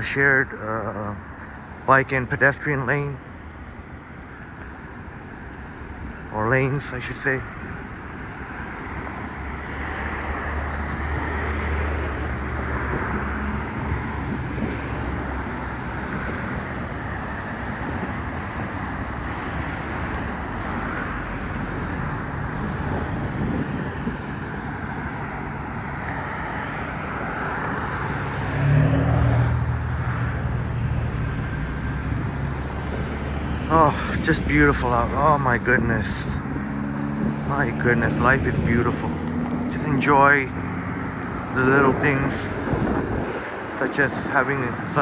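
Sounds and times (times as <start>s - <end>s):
cars passing on road: 0.0s - 45.0s
loud vehicle passing: 7.6s - 45.0s.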